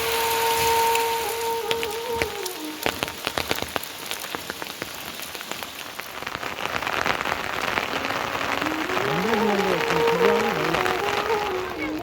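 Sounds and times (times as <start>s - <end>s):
rain drops striking: 0.0s - 12.0s
steady rain hiss: 0.0s - 12.0s.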